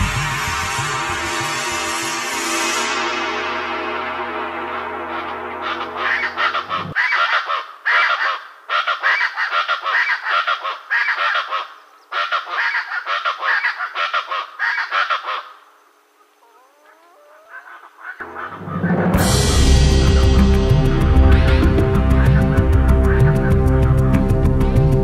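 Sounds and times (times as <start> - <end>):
harsh honking bird calls: 2.2 - 15.6, 17.5 - 24.4.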